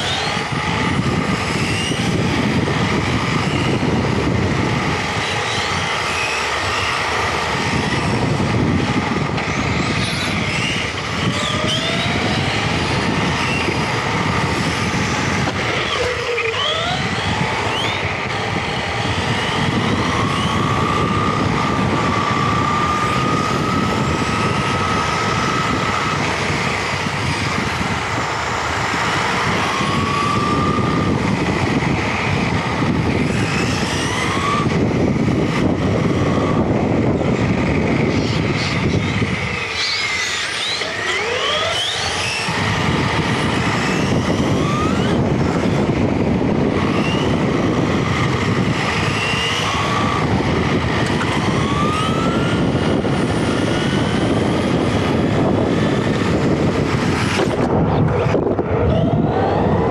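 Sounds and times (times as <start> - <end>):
electric motor whine: 0.0 - 59.9
tyre and road rumble: 0.0 - 59.9
wind on microphone: 0.0 - 59.9.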